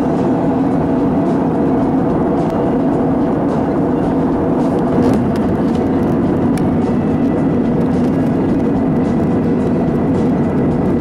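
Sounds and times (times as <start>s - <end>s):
airplane cabin roar: 0.0s - 11.0s.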